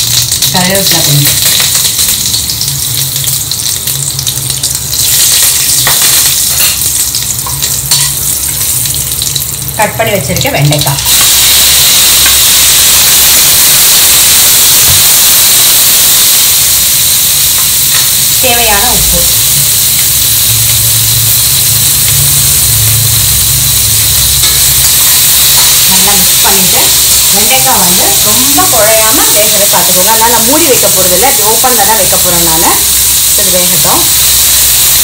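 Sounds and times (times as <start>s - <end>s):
okra sizzling in hot oil: 0.0s - 35.0s.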